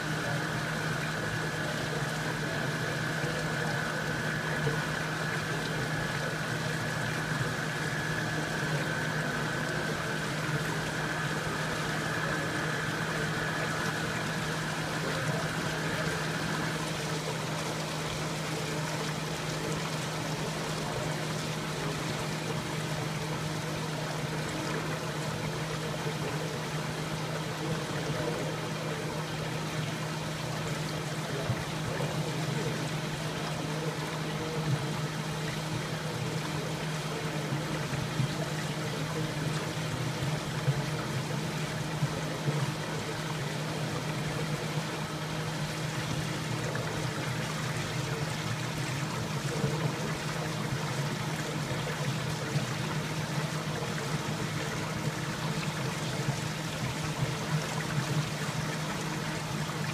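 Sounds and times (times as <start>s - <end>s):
constant low hum: 0.0s - 59.9s
faint high whine: 0.0s - 59.9s
rushing water: 0.0s - 59.9s.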